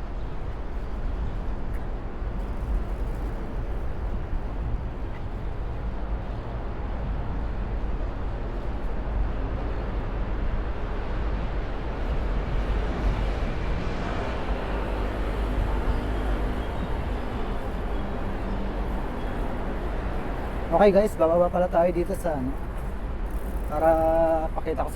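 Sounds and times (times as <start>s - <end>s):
wind rushing over microphone: 0.0s - 24.9s.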